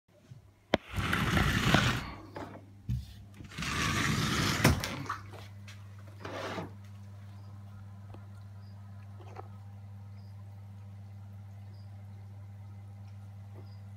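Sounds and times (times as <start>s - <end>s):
steady low hum: 0.2s - 13.9s.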